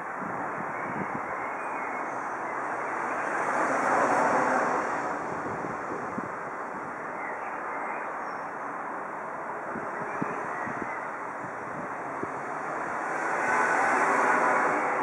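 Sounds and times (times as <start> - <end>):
outdoor background rush: 0.0 - 15.0.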